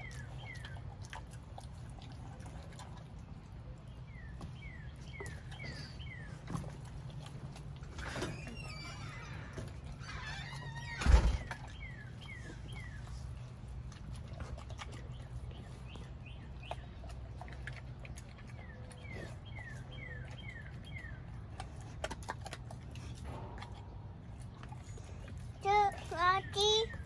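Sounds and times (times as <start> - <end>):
dog chewing raw chicken: 0.0 - 27.0.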